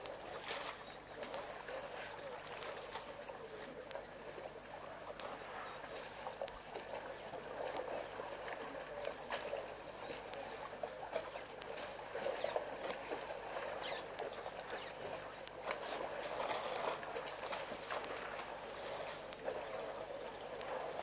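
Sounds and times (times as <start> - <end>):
water and mud splashing: 0.0 - 21.0.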